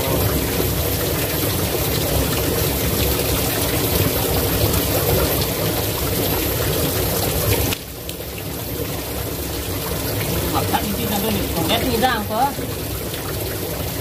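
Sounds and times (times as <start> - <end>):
stream flowing over rocks: 0.0 - 14.0.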